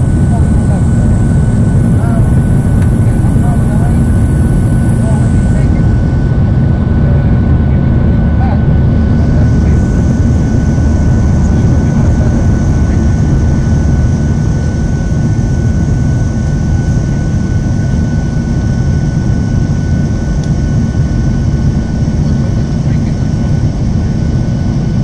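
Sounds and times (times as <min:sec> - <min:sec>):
jet engine high whine: 0:00.0 - 0:25.0
jet engines low rumble: 0:00.0 - 0:25.0.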